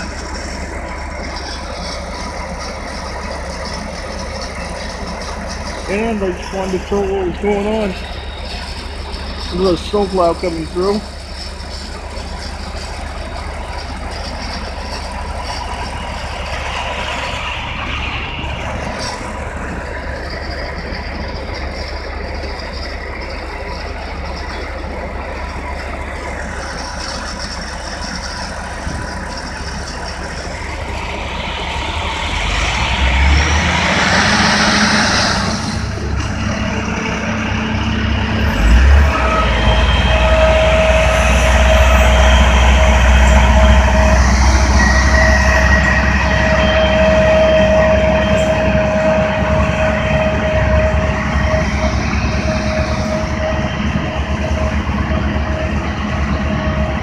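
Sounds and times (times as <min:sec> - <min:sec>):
heavy truck engines rumbling: 0:00.0 - 0:57.0
rushing noise: 0:00.0 - 0:57.0.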